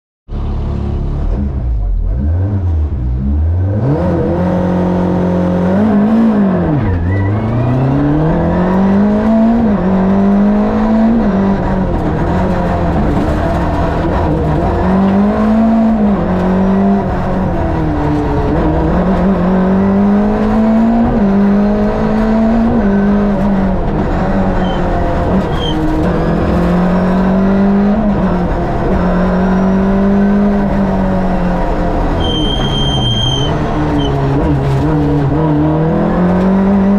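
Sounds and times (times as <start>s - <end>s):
rally car engine revving: 0.3s - 36.9s.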